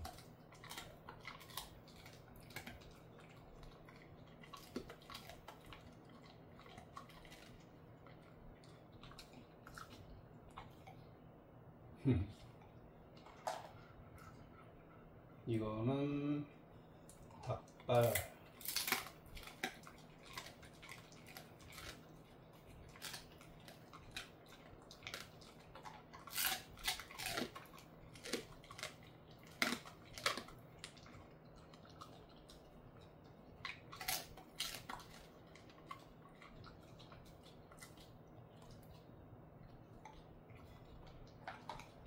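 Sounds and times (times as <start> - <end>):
dog crunching a treat: 0.0 - 11.0, 17.0 - 42.0.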